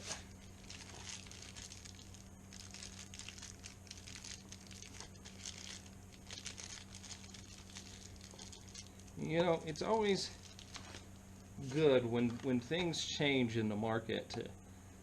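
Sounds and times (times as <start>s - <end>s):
packaging crinkling and rustling: 0.0s - 12.6s.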